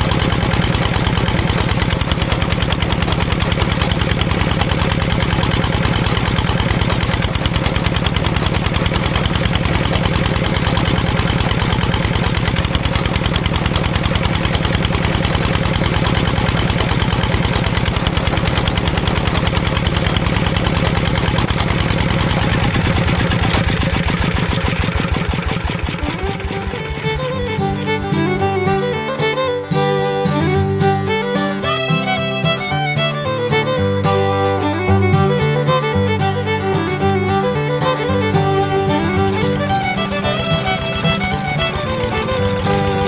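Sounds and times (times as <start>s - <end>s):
small engine chugging: 0.0s - 43.0s.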